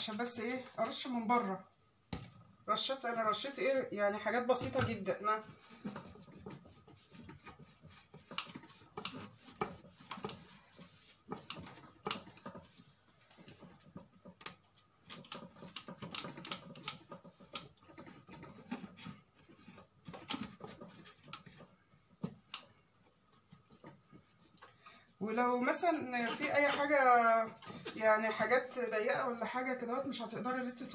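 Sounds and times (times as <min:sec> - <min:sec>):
cloth rubbing on plastic: 0:04.4 - 0:30.9.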